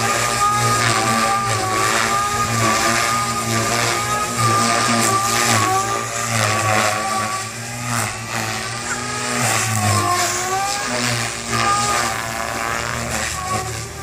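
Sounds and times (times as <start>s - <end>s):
electric motor whine: 0.0s - 14.0s
rotor blades chopping: 0.0s - 14.0s.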